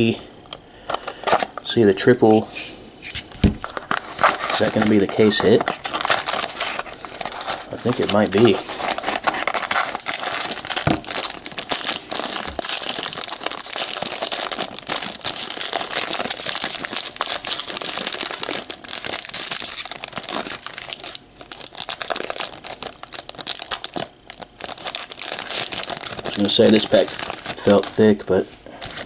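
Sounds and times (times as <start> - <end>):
plastic wrapper tearing and crinkling: 3.6 - 29.0.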